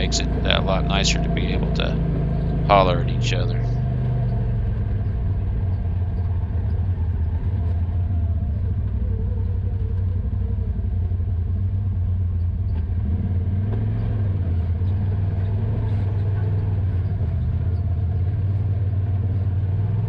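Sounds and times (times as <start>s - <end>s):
utility vehicle engine drone: 0.0s - 20.0s.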